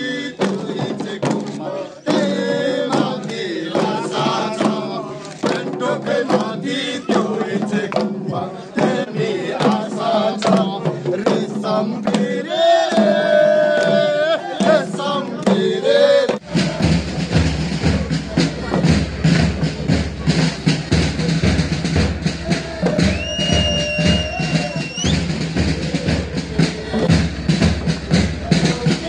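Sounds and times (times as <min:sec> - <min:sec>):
frame drums beating: 0:00.0 - 0:29.0
men chanting together: 0:00.0 - 0:29.0.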